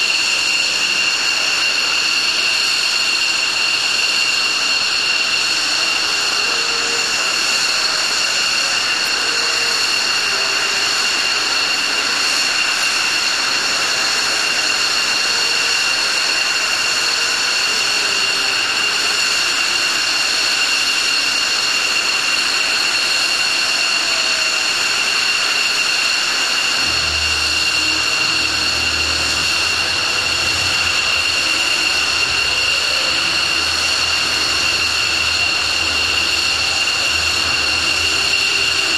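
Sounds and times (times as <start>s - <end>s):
jet engines idling whine: 0.0s - 38.9s.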